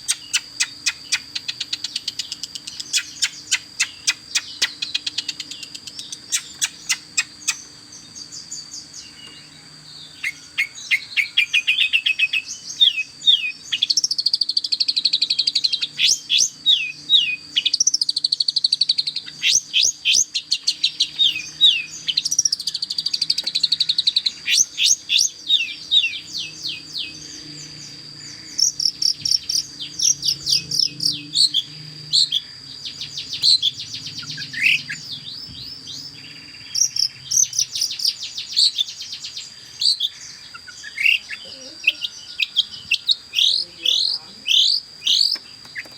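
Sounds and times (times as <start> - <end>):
bird singing chirps and whistles: 0.0 - 45.9.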